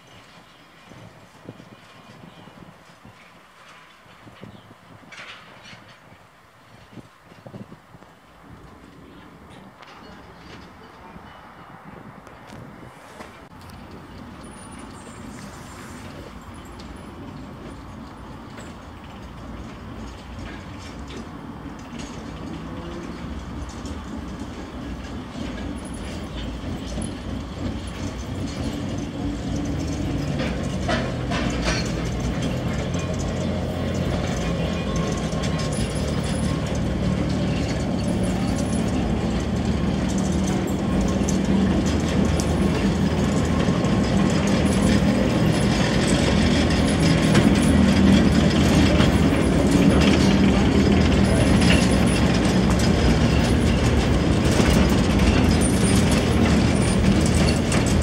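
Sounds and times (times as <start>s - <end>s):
wheels clattering on track: 0.0s - 58.0s
low locomotive motor hum: 0.1s - 58.0s.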